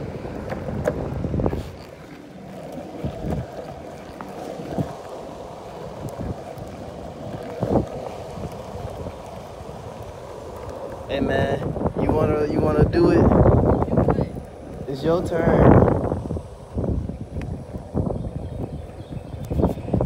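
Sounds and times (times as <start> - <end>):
longboard wheels rolling over pavement: 0.0 - 20.0
wind buffeting microphone: 0.0 - 20.0.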